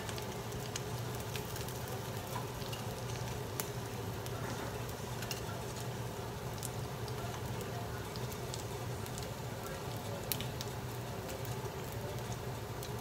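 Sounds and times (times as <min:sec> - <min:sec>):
chicken wings sizzling in hot oil: 0:00.0 - 0:13.0.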